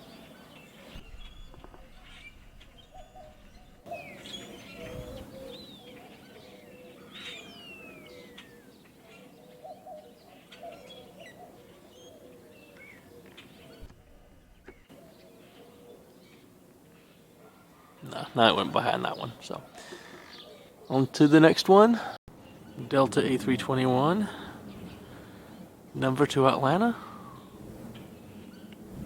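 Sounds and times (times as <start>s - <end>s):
birds chirping and calling: 0.0s - 28.9s.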